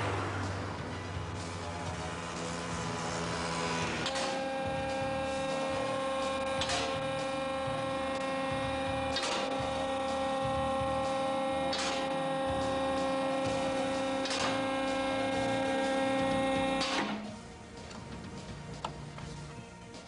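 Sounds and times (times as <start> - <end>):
machine hum with held tones: 0.1 - 17.4.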